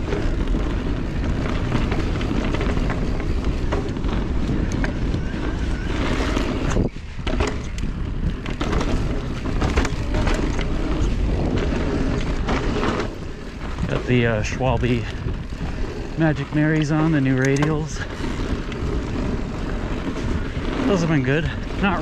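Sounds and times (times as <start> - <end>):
bike clicks and rattles: 0.0 - 22.0
bike tyres rumbling on dirt: 0.0 - 22.0
wind buffeting microphone: 0.0 - 22.0.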